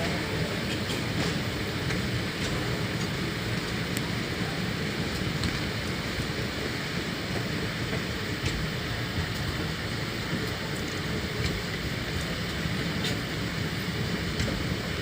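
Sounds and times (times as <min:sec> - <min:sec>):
passenger train rumbling: 0:00.0 - 0:15.0.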